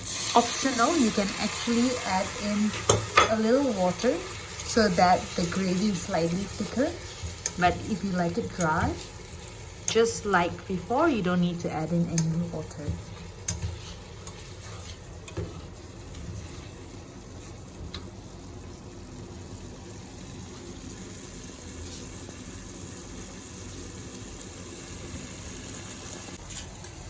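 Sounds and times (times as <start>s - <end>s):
gravy bubbling and sizzling: 0.0s - 27.0s.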